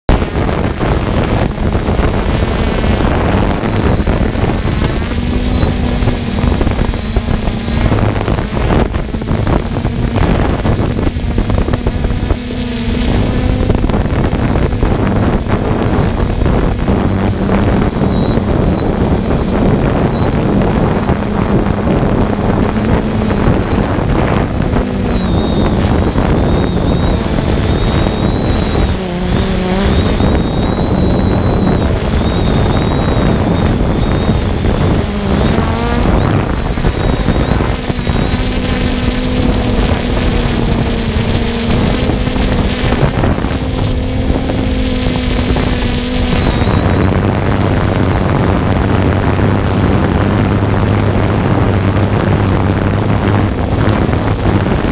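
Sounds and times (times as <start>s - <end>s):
drone motors buzzing: 0.0s - 54.9s
wind rumbling on microphone: 0.0s - 54.9s.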